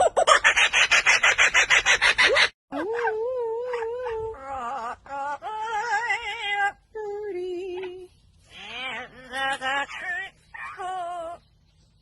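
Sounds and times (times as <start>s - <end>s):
parrot song-like vocalizing: 0.0s - 6.9s, 7.7s - 11.6s.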